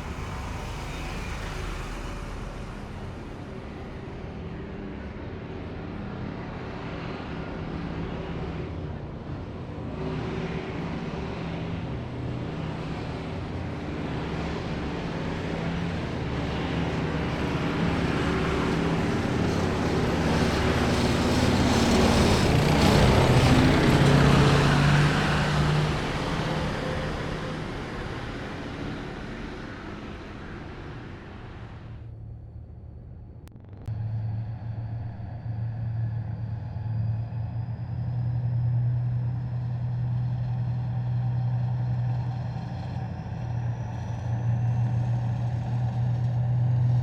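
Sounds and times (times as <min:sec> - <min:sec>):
heavy vehicles driving past: 0:00.0 - 0:32.3, 0:33.5 - 0:47.0.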